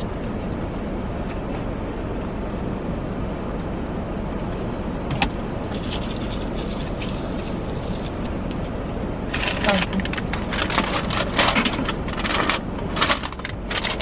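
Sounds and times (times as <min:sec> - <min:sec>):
car engine idling hum: 0:00.0 - 0:14.0.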